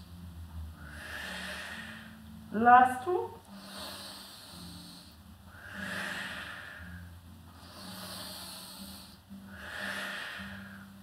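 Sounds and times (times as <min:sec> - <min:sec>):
woman breathing hissily: 0:00.8 - 0:02.4, 0:03.5 - 0:11.0.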